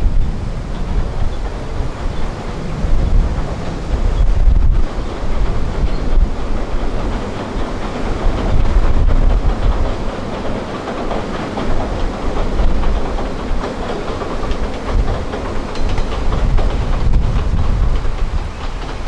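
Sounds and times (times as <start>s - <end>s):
railcars rumbling across bridge: 0.0s - 19.0s
wind gusting on microphone: 0.0s - 19.0s.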